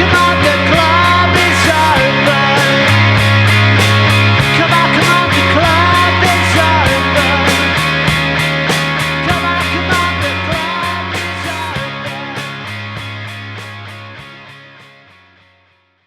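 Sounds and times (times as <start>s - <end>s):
rock band playing instrumental: 0.0s - 14.8s
sliding lead guitar line: 0.0s - 15.4s.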